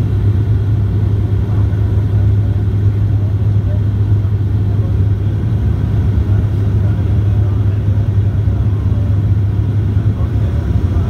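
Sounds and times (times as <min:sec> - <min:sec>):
propeller and engine drone: 0:00.0 - 0:11.0.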